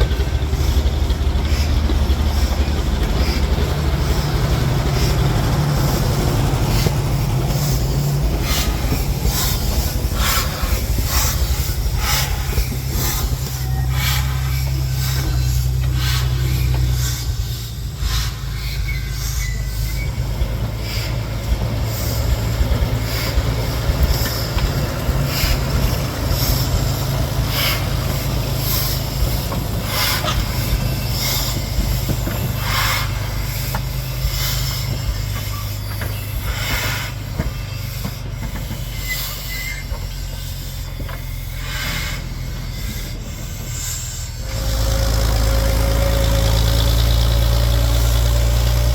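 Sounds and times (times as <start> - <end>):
diesel locomotive engine drone: 0.0 - 48.9
wheel squeal: 0.0 - 48.9
wheels and couplings clanking: 0.0 - 48.9.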